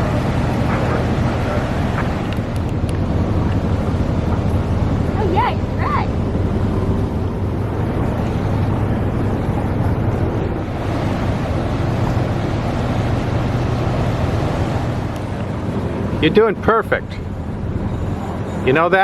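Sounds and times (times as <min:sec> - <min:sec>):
low steady hum: 0:00.0 - 0:19.0
turbulent water churning: 0:00.0 - 0:19.0.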